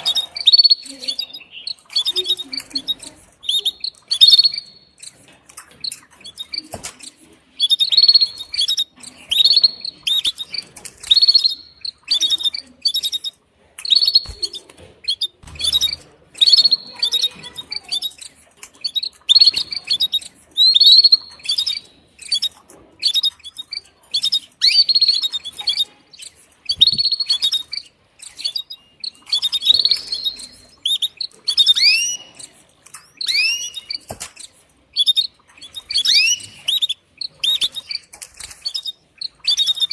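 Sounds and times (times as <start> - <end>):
canary chirping: 0.0 - 39.9.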